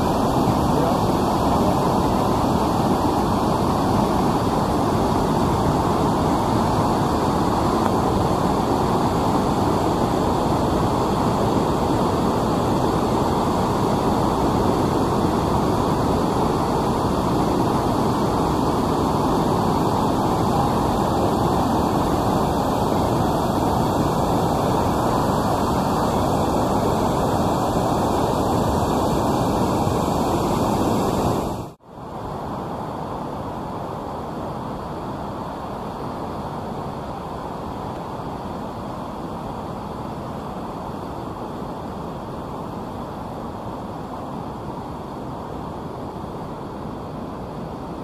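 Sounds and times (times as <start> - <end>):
whitewater river rushing over boulders: 0.0 - 48.0.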